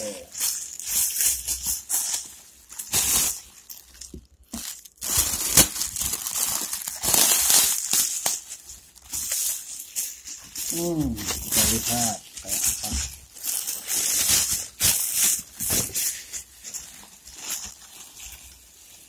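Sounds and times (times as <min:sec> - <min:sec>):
plastic wrapping crinkling: 0:00.0 - 0:19.0.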